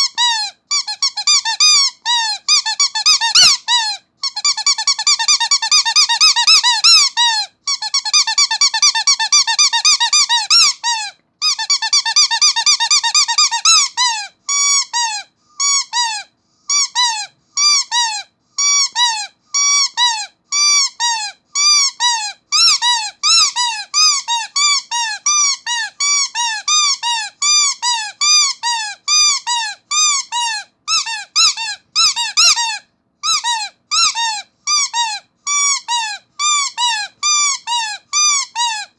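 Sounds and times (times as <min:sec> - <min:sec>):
squeaky toy squeaks: 0:00.0 - 0:38.9.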